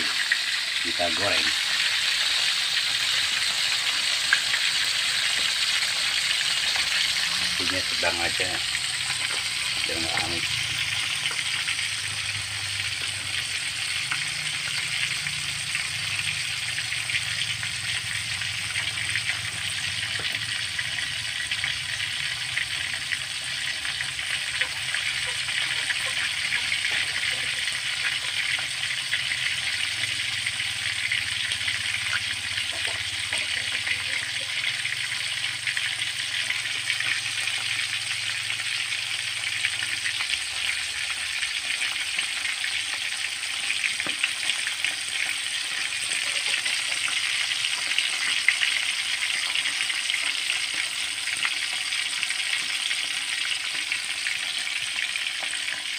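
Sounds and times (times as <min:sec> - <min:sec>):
fish sizzling in hot oil: 0:00.0 - 0:55.9.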